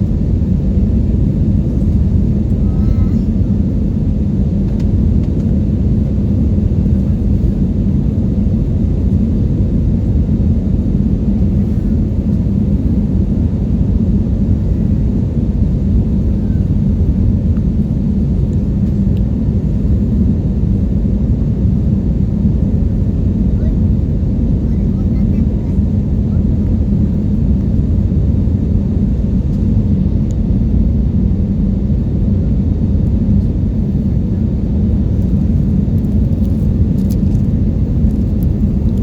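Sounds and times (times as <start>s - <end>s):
airliner engines rumbling: 0.0s - 39.0s.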